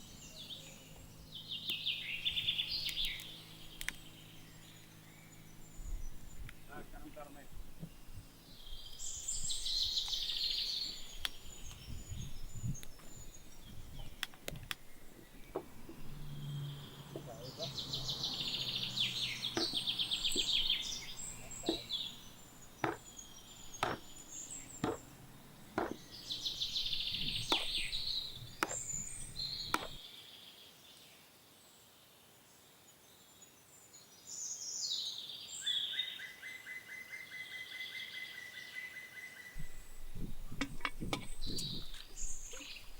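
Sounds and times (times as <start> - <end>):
songbird singing trilled phrases: 0.0 - 30.3, 34.3 - 42.9.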